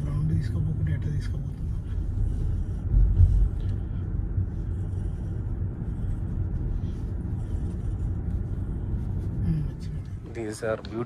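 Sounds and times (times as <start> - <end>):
road and tyre rumble in car cabin: 0.0 - 11.0.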